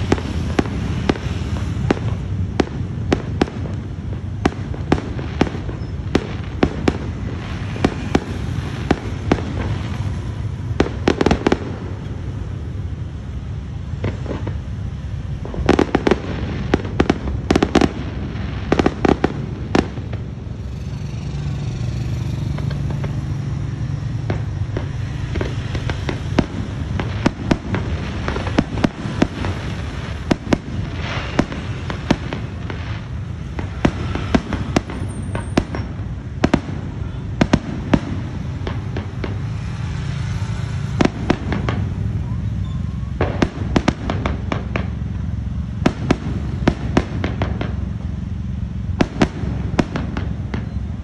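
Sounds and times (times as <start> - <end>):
fireworks bangs: 0.0 - 51.0
steady background noise: 0.0 - 51.0.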